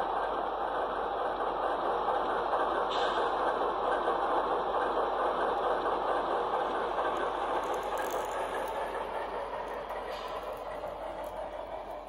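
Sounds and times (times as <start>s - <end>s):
diesel engine through small speaker: 0.0s - 12.0s.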